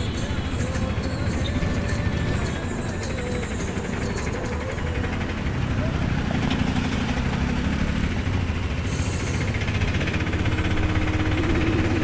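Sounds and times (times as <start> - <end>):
auto-rickshaw engine chugging: 0.0 - 12.0.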